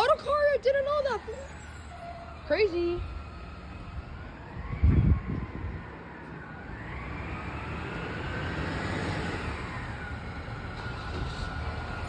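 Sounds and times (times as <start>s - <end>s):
garbage truck engine whine: 0.0s - 12.0s.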